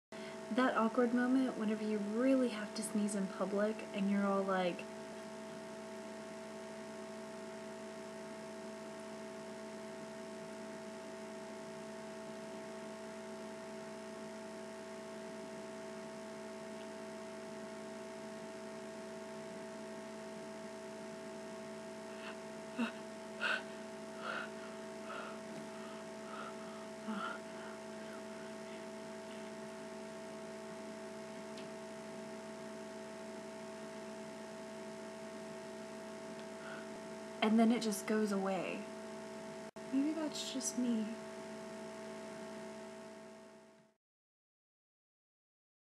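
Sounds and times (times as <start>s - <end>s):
electrical hum: 0.1s - 43.9s.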